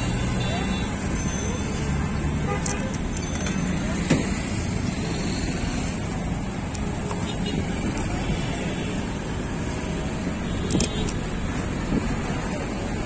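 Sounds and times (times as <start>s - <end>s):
street traffic passing: 0.0s - 13.0s.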